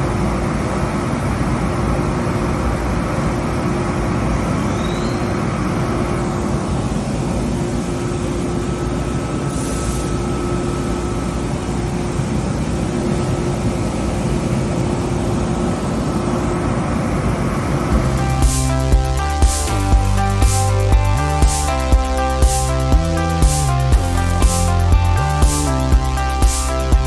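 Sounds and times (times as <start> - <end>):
machine whir and hum: 0.0 - 27.0.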